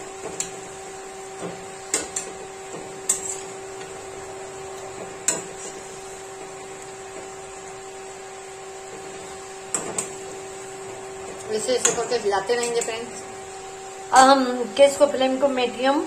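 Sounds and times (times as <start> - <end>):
fritters sizzling in oil: 0.0 - 15.5
steady hum: 0.0 - 16.0.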